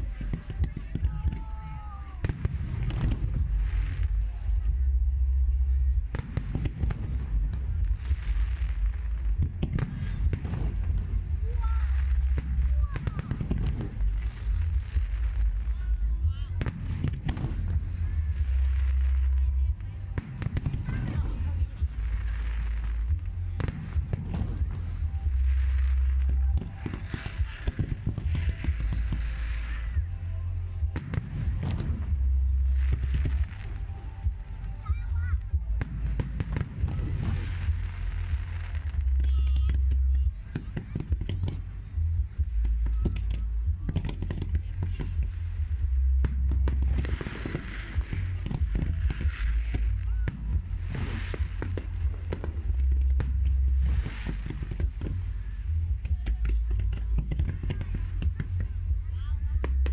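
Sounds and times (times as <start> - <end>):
fireworks booming: 0.0 - 59.9.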